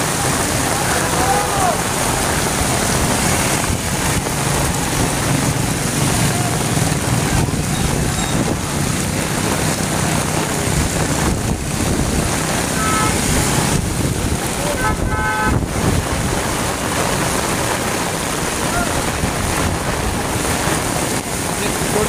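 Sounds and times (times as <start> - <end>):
heavy rain on street: 0.0 - 22.0
passing motorbikes: 0.0 - 22.0
wind rumble on microphone: 0.0 - 22.0.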